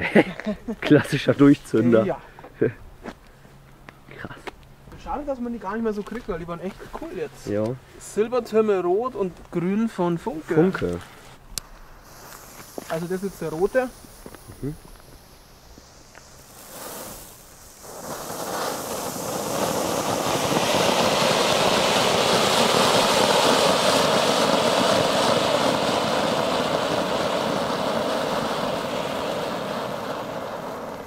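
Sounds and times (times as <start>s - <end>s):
ground fountain firework hissing: 0.0s - 9.1s, 9.9s - 31.0s.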